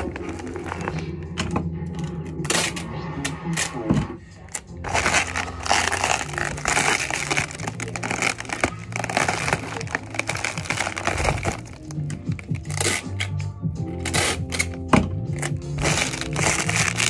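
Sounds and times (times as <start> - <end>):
crinkling and clicking: 0.0 - 3.9, 4.5 - 17.0
background music with bass line: 0.0 - 17.0.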